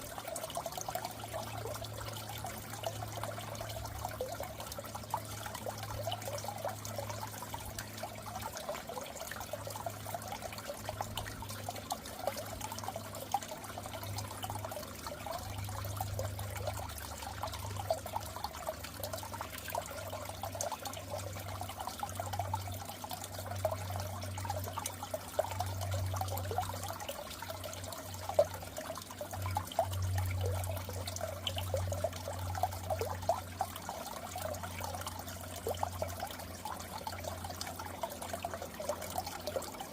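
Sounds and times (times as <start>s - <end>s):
constant low hum: 0.0s - 39.9s
water trickling and bubbling: 0.0s - 39.9s.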